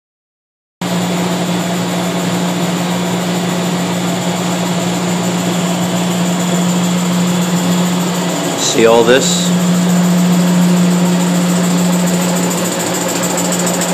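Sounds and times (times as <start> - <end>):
boiler burners and fans roaring: 0.8 - 13.9
steady low hum: 1.0 - 13.9.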